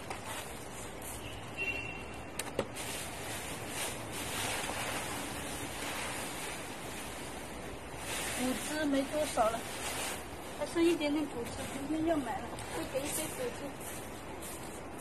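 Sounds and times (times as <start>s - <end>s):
plastic bag rustling: 2.7s - 15.0s.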